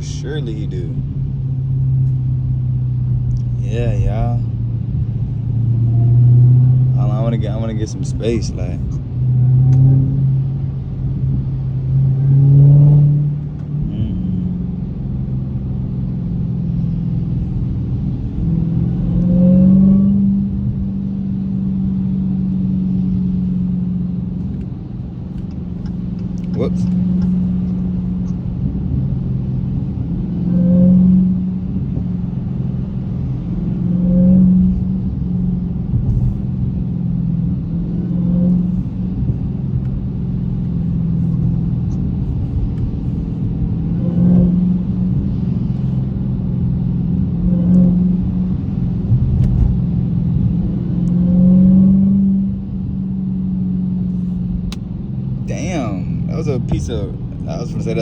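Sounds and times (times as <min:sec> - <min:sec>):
car engine cruising from inside: 0:00.0 - 0:58.0.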